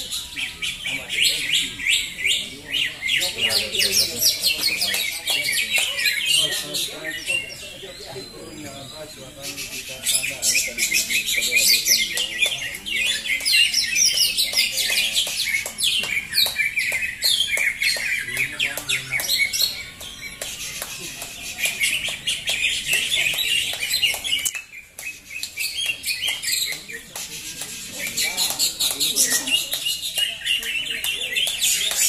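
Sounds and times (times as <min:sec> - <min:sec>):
caged birds singing: 0:00.0 - 0:32.0.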